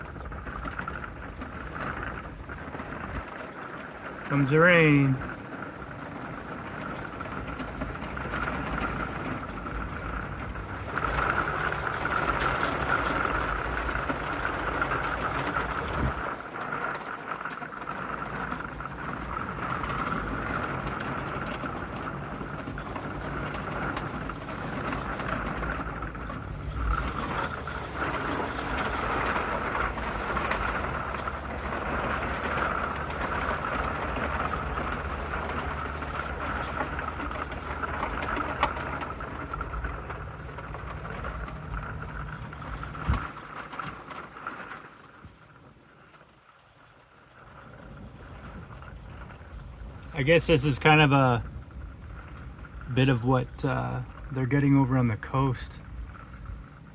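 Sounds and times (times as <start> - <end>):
rain and wind: 0.0 - 56.9.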